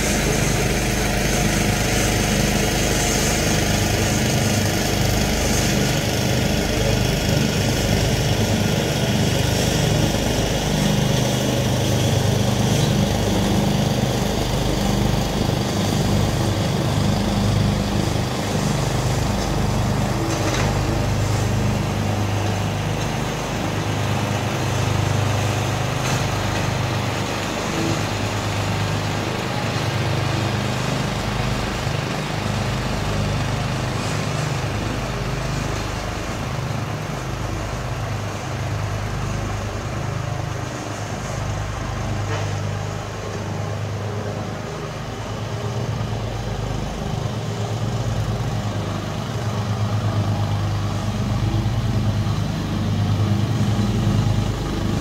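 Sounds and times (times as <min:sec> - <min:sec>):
lawn tractor engines mowing: 0:00.0 - 0:55.0.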